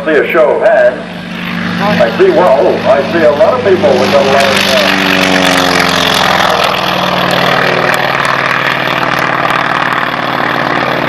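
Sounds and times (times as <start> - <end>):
aircraft engine running: 0.0 - 11.0
broad rushing noise: 0.0 - 11.0.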